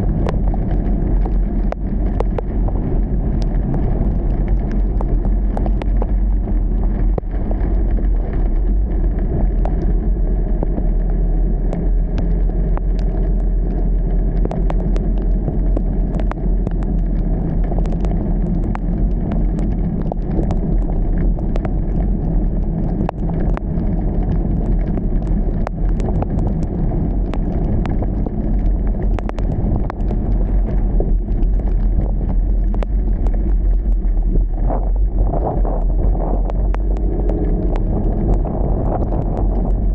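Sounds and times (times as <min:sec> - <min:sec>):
car engine and tyres on wet road: 0:00.0 - 0:39.9
rain ticking on car: 0:00.0 - 0:39.9.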